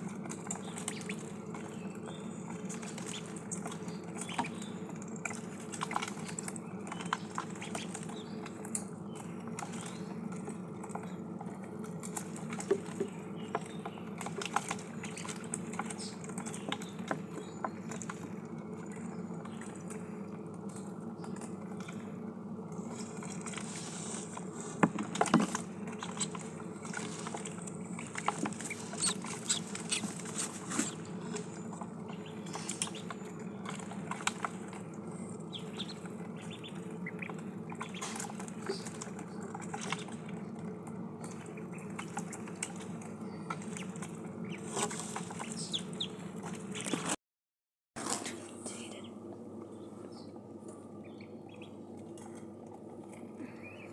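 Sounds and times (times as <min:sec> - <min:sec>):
steady low hum: 0:00.0 - 0:47.1, 0:48.0 - 0:53.9
ducklings' bills pecking and dabbling: 0:00.0 - 0:47.2, 0:48.0 - 0:53.9.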